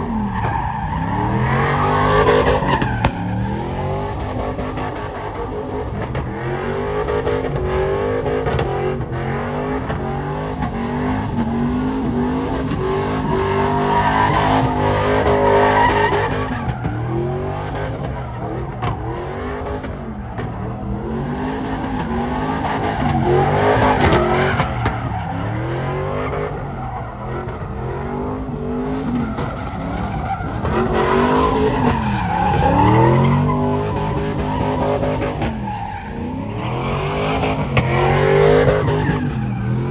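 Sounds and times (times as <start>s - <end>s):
tyres squealing and skidding: 0.0s - 39.9s.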